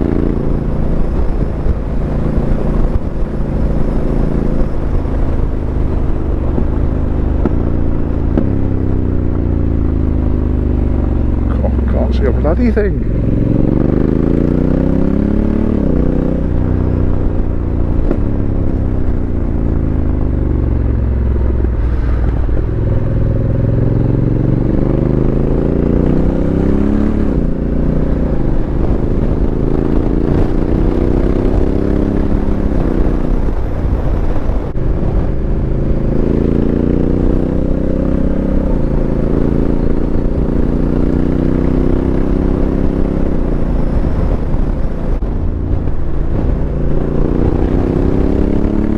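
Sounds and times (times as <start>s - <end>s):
motorcycle engine accelerating: 0.0s - 48.9s
wind noise on microphone: 0.0s - 48.9s.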